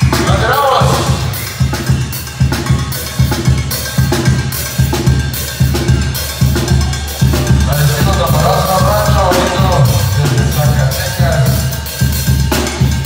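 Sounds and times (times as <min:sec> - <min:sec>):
bass drum beat: 0:00.0 - 0:13.0.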